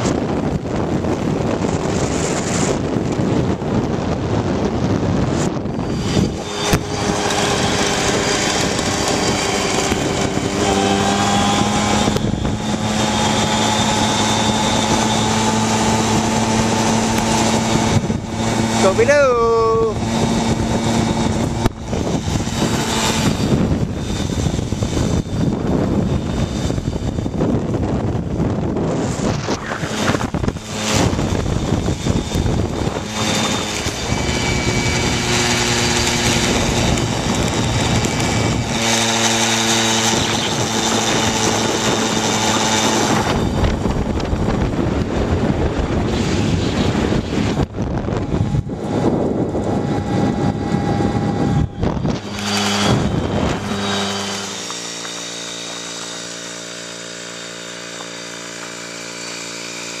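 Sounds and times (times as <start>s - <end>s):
moped engine running: 0.0s - 60.0s
wind buffeting microphone: 0.0s - 60.0s.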